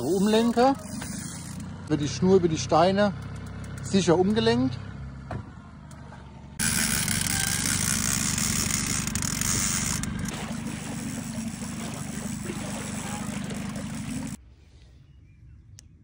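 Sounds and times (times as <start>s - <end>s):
boat motor running: 0.0s - 14.4s.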